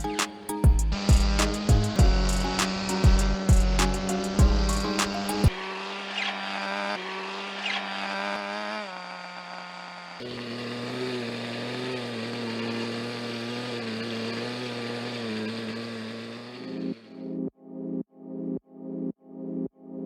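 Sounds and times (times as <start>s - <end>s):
nitro rc car engine running: 0.9s - 17.1s.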